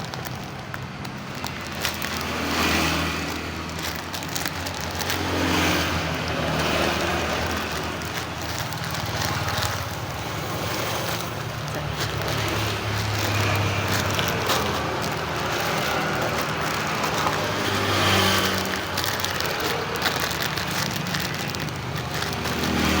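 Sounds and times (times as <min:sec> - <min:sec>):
faint crackles: 0:00.0 - 0:23.0
street noise: 0:00.0 - 0:23.0
engine humming: 0:00.2 - 0:23.0.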